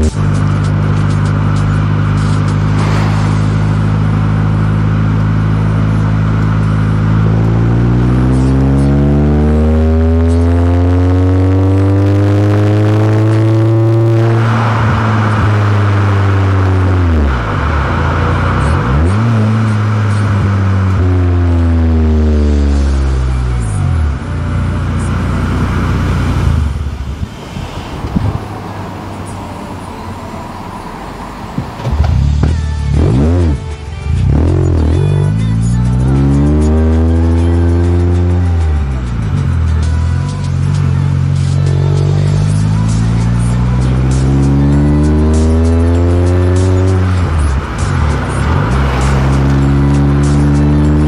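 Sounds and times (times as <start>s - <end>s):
car engine and exhaust revving: 0.0s - 51.0s.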